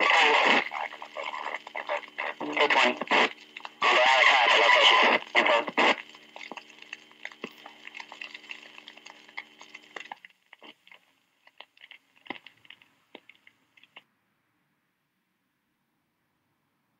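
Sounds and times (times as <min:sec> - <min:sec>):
recording crackle and clicks: 0:00.0 - 0:14.1
low steady hum: 0:00.0 - 0:16.9.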